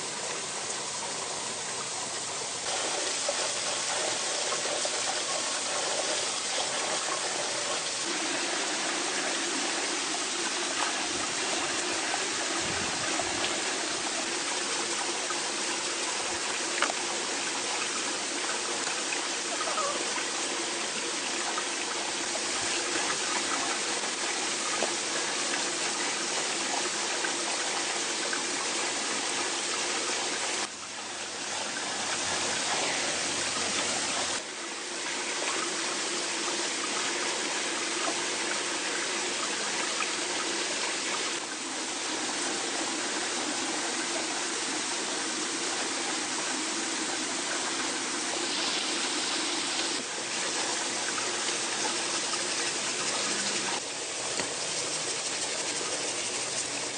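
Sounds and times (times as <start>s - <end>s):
stream running: 0.0s - 56.9s.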